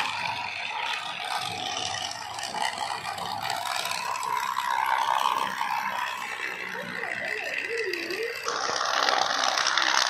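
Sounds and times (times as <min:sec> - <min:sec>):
toy train motors whirring: 0:00.0 - 0:10.0
wheels rattling over rails: 0:00.0 - 0:10.0.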